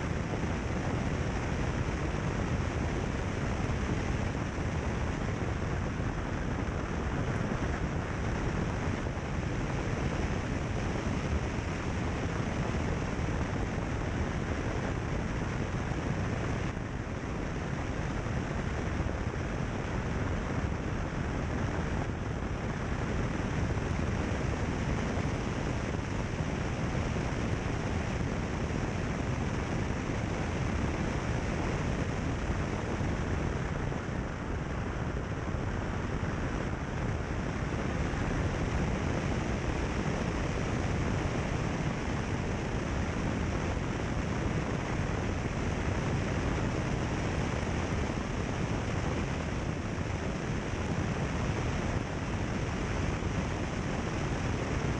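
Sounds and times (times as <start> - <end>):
wind rush on microphone: 0.0 - 54.9.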